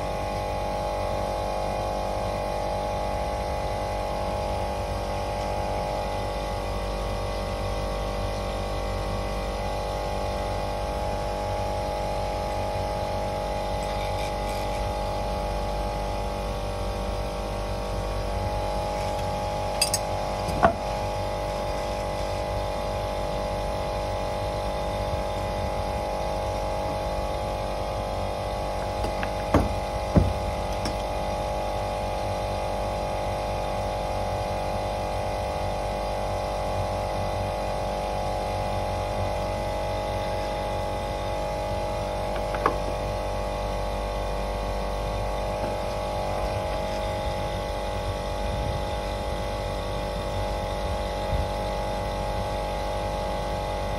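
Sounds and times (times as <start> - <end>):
air conditioner humming: 4.5 - 33.8, 38.8 - 53.9.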